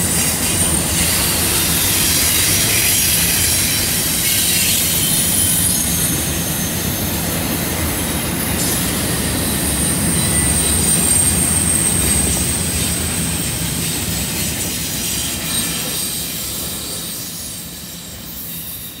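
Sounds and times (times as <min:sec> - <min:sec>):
high wheel squeal: 0:00.0 - 0:19.0
train wheels rumbling on rail: 0:00.0 - 0:19.0.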